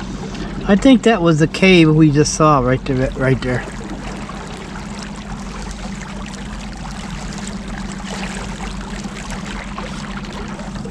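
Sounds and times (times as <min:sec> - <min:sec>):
boat engine humming: 0:00.0 - 0:10.9
water splashing along hull: 0:00.0 - 0:10.9.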